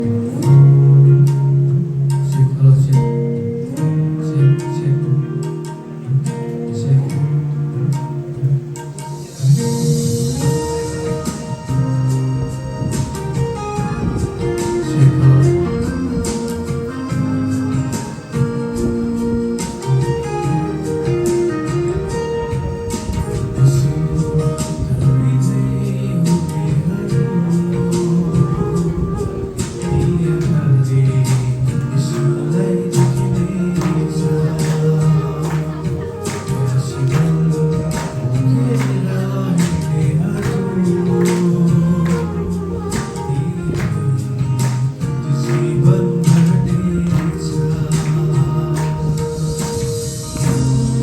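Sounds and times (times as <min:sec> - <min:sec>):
guitar-led instrumental music: 0:00.0 - 0:51.0.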